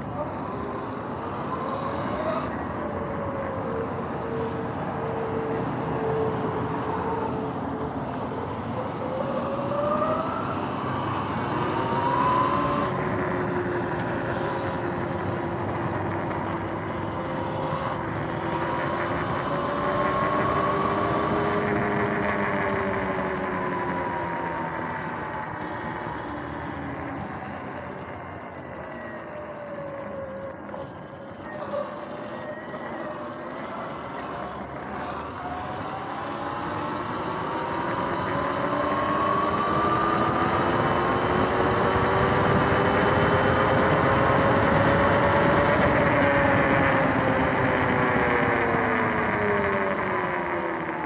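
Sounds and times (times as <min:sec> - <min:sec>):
electric motor and chain whine: 0:00.0 - 0:51.0.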